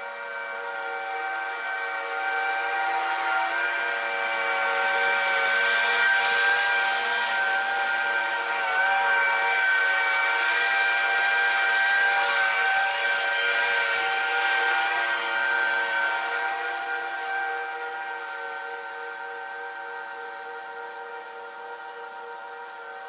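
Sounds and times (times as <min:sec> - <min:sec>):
lawn mower cutting grass: 0:00.0 - 0:23.0.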